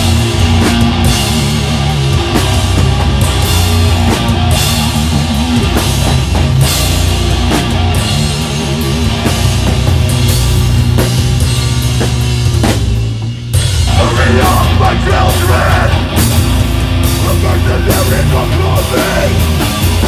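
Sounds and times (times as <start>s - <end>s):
bass guitar: 0.0s - 20.0s
distorted electric guitars: 0.0s - 20.0s
drum kit with cymbal crashes: 0.0s - 20.0s.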